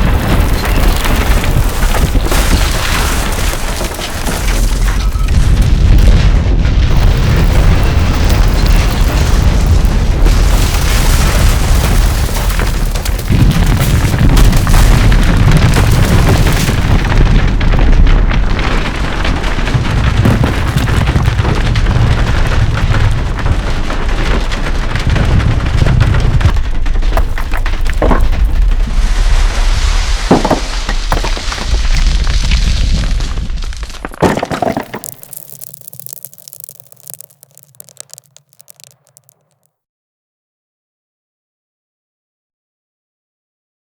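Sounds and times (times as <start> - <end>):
deep earthquake rumble: 0.0 - 39.4
crashing cracking debris: 0.0 - 39.7.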